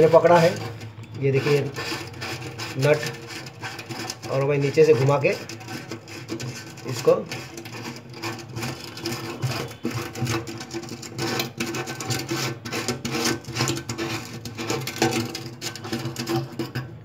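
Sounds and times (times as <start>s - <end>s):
metal scraping and clicking: 0.0s - 17.0s.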